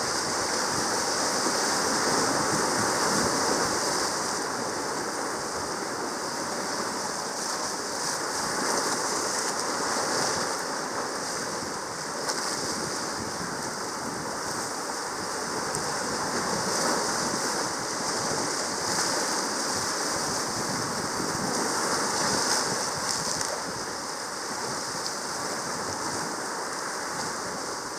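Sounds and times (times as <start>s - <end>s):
sea water rushing: 0.0s - 27.9s.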